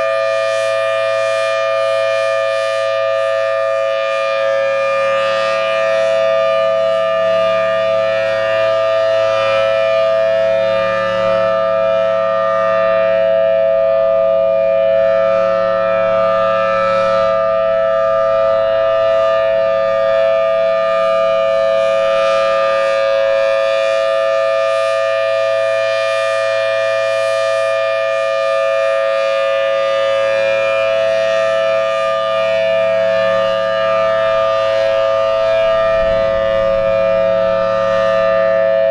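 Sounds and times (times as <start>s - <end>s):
warning siren two-tone chord: 0.0s - 38.9s.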